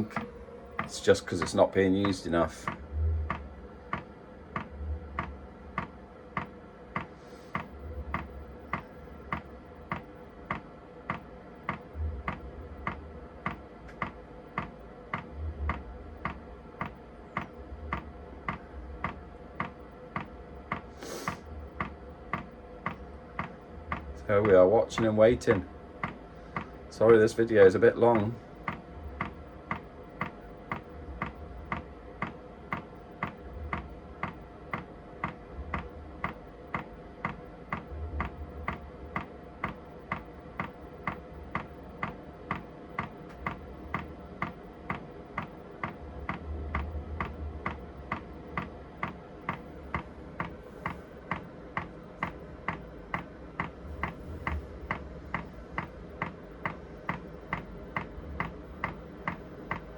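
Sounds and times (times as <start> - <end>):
heater fan hum: 0.0 - 59.9.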